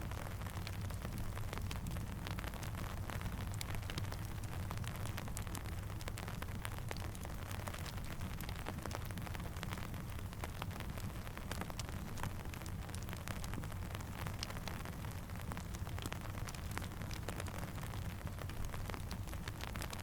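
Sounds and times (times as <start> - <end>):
campfire crackling: 0.0 - 20.0
steady rain falling: 0.0 - 20.0.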